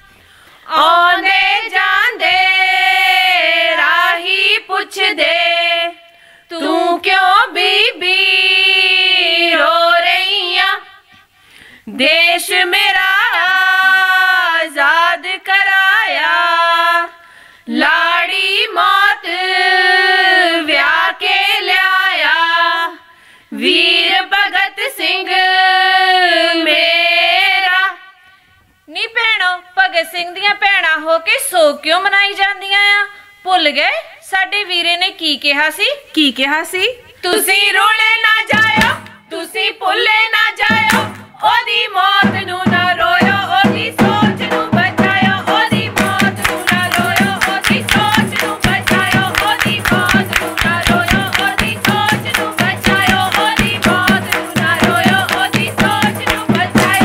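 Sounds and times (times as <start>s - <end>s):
women singing unaccompanied: 0.0s - 28.2s, 28.9s - 57.0s.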